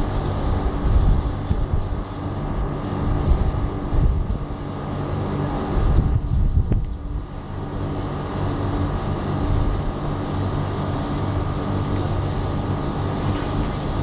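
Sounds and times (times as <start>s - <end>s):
street noise: 0.0s - 14.0s
vehicle low hum: 0.0s - 14.0s.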